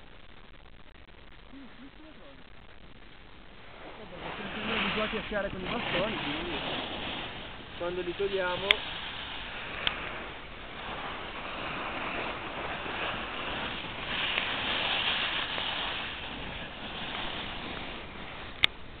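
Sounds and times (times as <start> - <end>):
wind rushing on microphone: 3.5 - 19.0.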